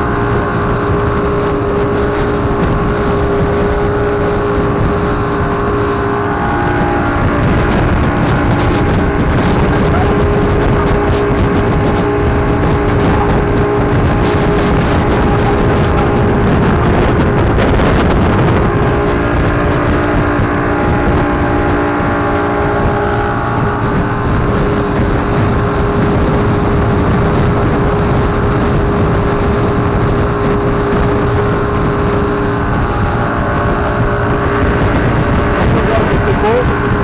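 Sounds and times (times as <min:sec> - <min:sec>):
motorboat engine running: 0:00.0 - 0:37.0
water rushing along hull: 0:00.0 - 0:37.0
wind buffeting microphone: 0:00.0 - 0:37.0.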